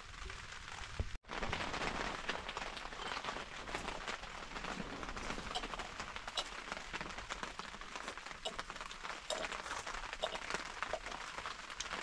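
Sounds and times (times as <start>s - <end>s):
steady rain pattering: 0.0s - 12.0s.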